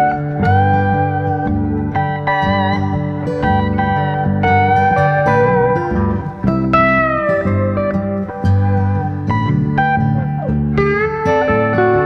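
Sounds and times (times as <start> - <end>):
guitar melody with sliding notes: 0.0 - 12.0.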